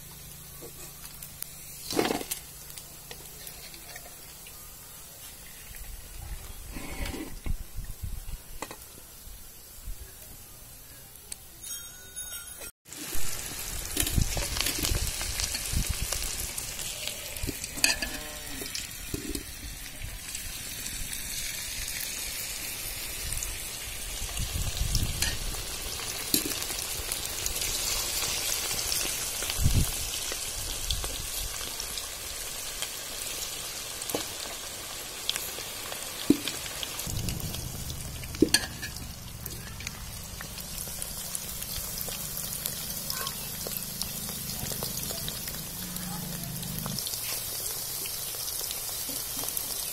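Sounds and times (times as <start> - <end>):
food deep-frying in oil: 0.0 - 11.4, 12.8 - 49.9.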